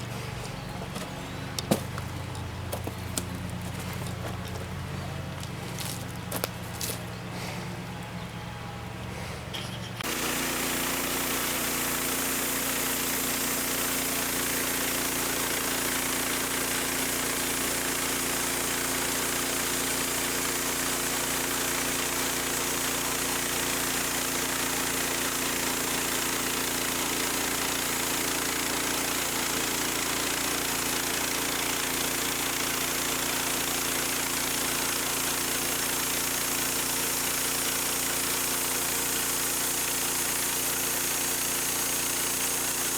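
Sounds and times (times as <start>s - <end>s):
sawmill engine running: 0.0s - 42.9s.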